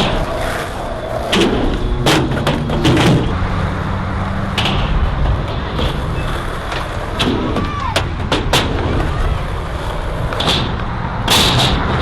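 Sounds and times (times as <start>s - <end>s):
skateboard clacking on ground: 0.0s - 3.4s, 4.4s - 12.0s
skateboard wheels rolling on concrete: 0.0s - 12.0s.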